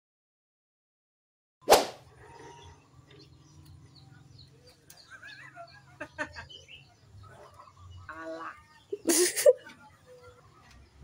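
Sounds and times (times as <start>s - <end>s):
small bird chirps and warbles: 2.0s - 11.0s.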